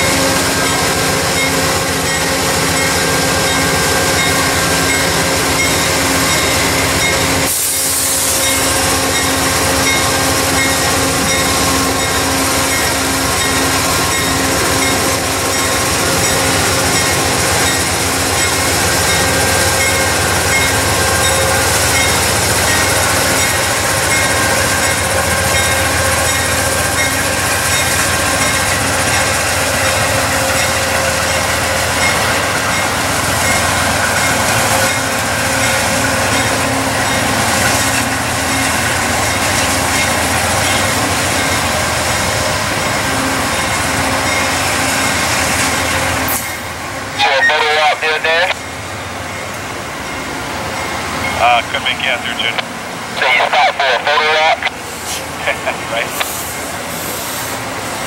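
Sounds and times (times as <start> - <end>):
train wheels rushing on rails: 0.0 - 47.2, 54.5 - 58.0.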